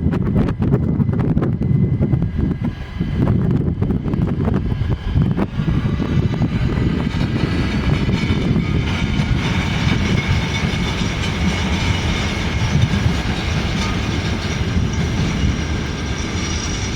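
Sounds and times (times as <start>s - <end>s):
train rumbling past: 1.6s - 16.9s.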